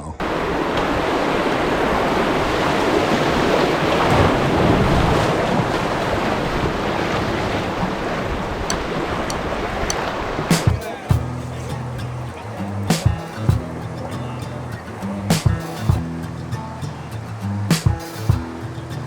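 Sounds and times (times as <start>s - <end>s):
river water rushing: 0.2s - 19.0s.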